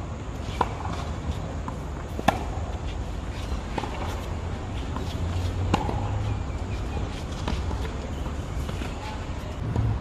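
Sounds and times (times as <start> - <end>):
tennis balls hit with rackets: 0.3 - 10.0.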